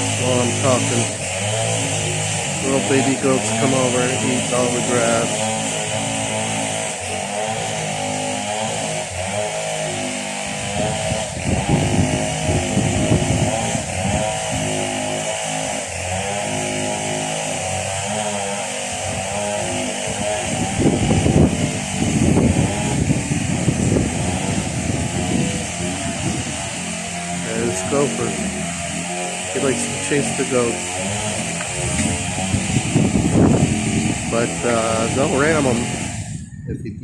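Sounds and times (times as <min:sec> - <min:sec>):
chainsaw cutting wood: 0:00.0 - 0:36.5.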